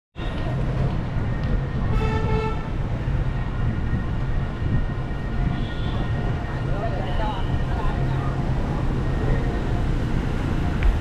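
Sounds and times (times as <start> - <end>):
vehicle rumble: 0.2 - 11.0.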